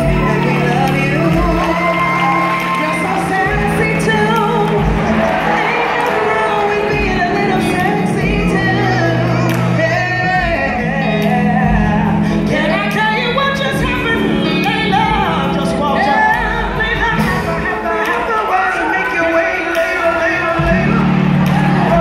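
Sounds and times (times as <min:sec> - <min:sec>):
women singing gospel: 0:00.0 - 0:19.5
live band low chords: 0:00.0 - 0:22.0.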